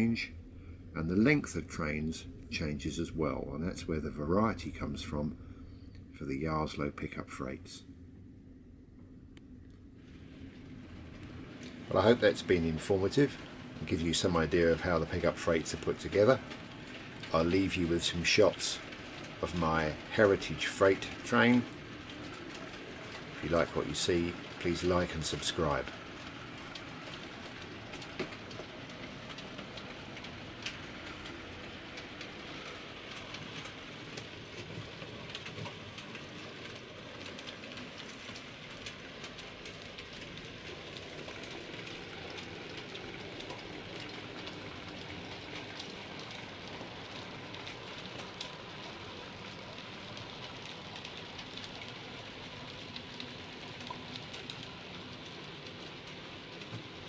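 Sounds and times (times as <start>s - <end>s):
wheels clicking over rail joints: 11.2s - 57.0s.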